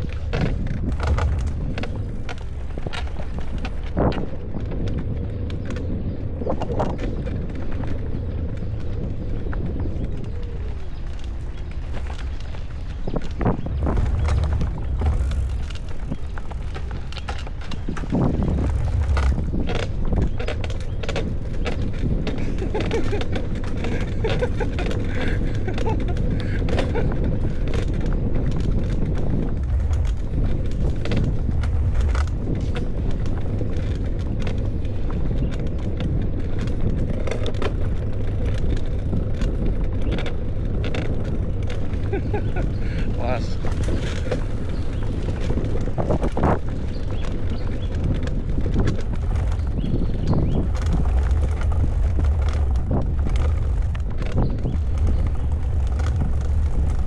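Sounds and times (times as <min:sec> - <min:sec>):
bicycle clicks and rattles: 0:00.0 - 0:57.0
wind buffeting microphone: 0:00.0 - 0:57.0.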